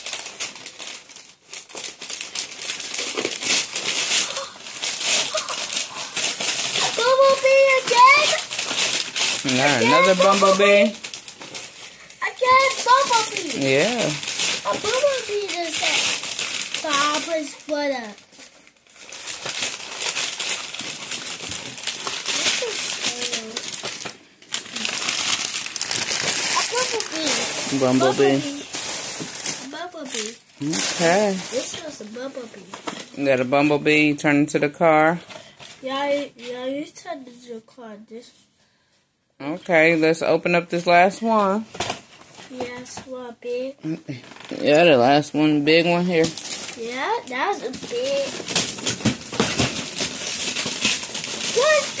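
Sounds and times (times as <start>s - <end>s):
wrapping paper crinkling and tearing: 0.0s - 33.8s, 40.7s - 52.0s.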